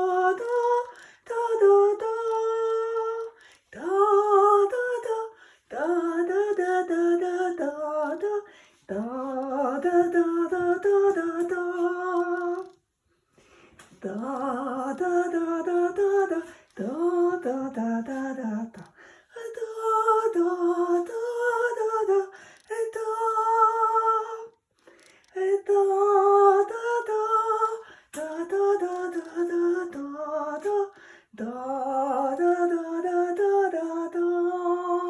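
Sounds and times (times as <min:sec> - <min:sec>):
woman singing wordless melody: 0:00.0 - 0:12.8, 0:13.8 - 0:35.0.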